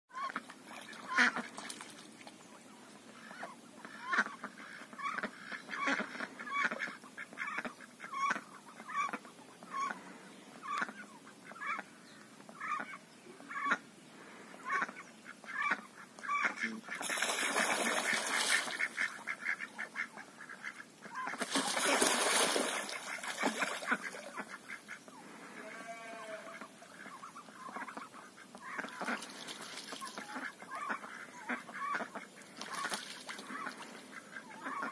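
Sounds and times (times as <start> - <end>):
waterfowl honking: 0.1 - 1.8, 3.1 - 10.0, 14.6 - 34.9.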